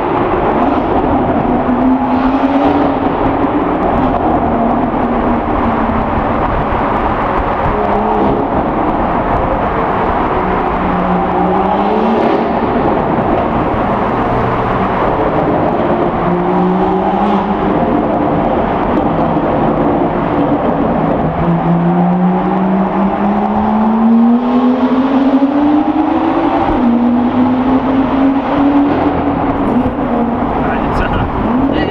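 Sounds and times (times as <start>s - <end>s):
car exhaust under acceleration: 0.0s - 31.9s.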